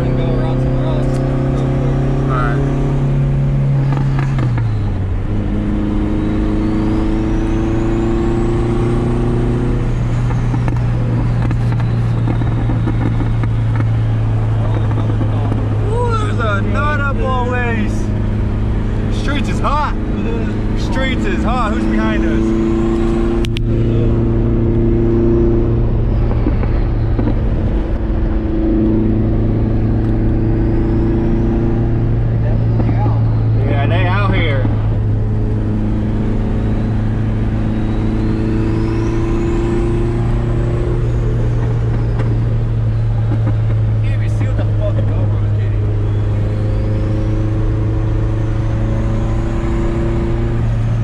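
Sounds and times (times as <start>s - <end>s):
car engine cruising: 0.0s - 51.0s
road noise: 0.0s - 51.0s.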